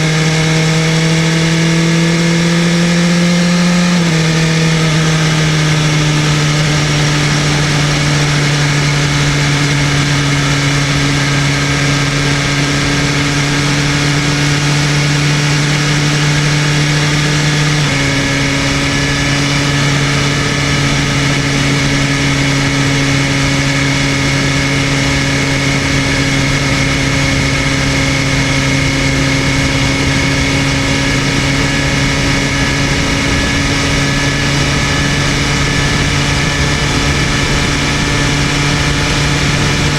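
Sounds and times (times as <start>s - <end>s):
motorcycle engine at steady revs: 0.0s - 39.9s
wind rush: 4.0s - 39.9s.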